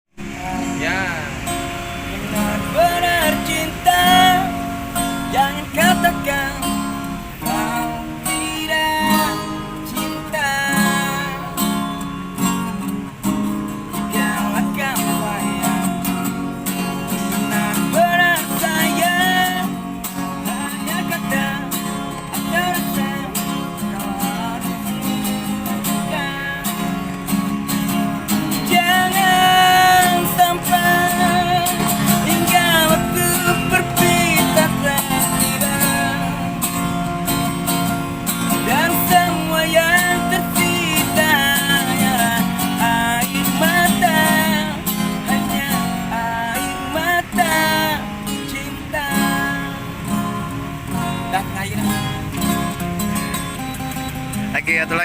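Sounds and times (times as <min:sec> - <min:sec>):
strummed acoustic guitar: 0:00.1 - 0:55.0
person singing with vibrato: 0:00.2 - 0:12.2, 0:13.8 - 0:27.1, 0:28.1 - 0:37.2, 0:38.4 - 0:50.1.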